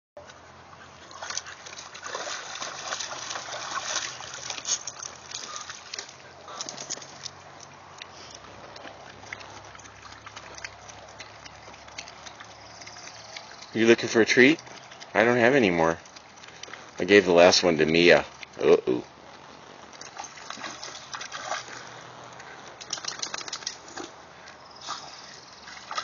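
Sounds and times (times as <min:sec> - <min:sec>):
dog splashing in pool water: 0:00.7 - 0:07.8, 0:08.4 - 0:16.4, 0:19.8 - 0:26.0.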